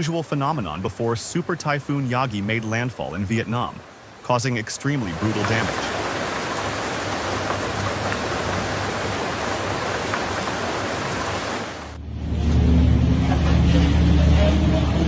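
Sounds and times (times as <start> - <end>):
storm wind and rain: 0.0 - 15.0.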